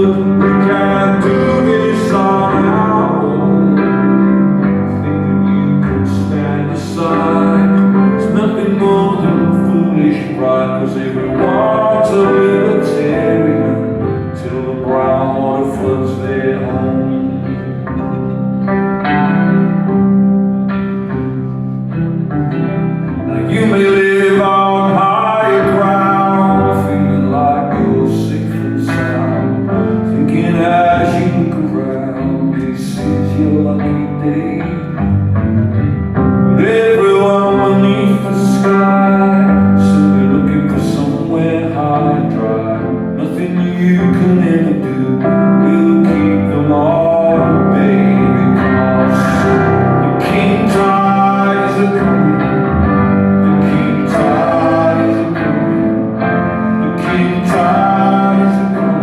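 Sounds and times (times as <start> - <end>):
person singing: 0.0 - 59.0
strummed guitar: 0.0 - 59.0.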